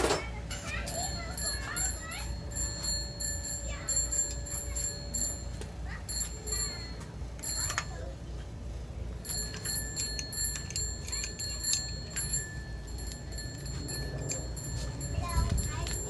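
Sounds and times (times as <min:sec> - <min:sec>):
metal tools clinking: 0:00.5 - 0:08.1, 0:09.2 - 0:16.0.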